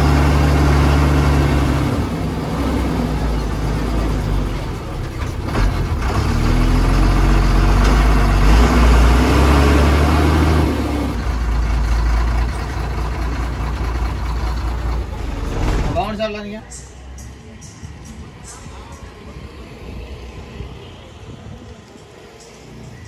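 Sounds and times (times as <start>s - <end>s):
bus diesel engine rumbling: 0.0s - 23.0s.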